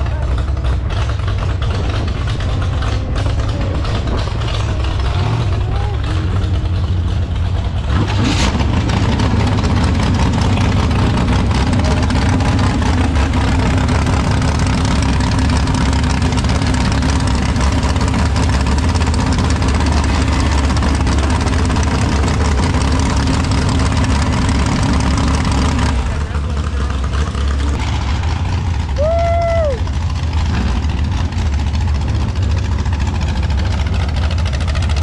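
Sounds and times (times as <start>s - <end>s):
tractor engine idling: 0.0s - 35.0s.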